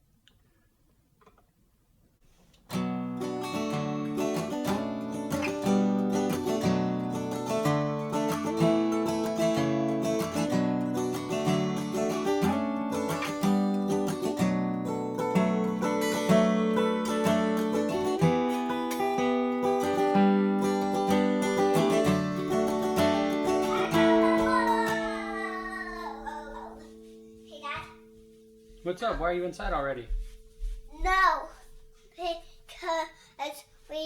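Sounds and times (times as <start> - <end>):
acoustic guitar picking and strumming: 2.6 - 34.0.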